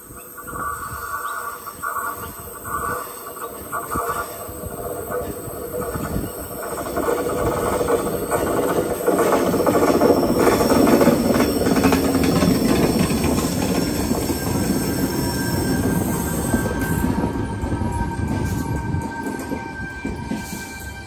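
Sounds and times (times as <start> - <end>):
train wheels rumbling on rails: 0.0 - 21.0
train wheels squealing: 0.0 - 21.0.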